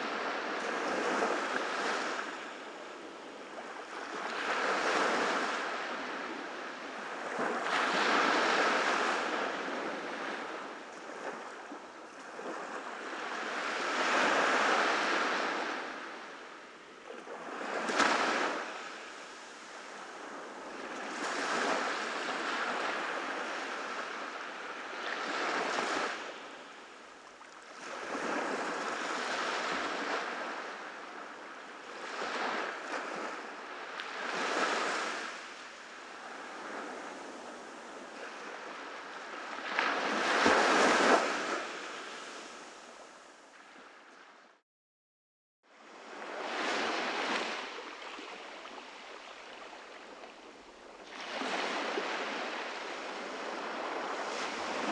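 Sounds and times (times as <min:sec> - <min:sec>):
ocean surf breaking on a beach: 0:00.0 - 0:43.4, 0:45.8 - 0:54.9.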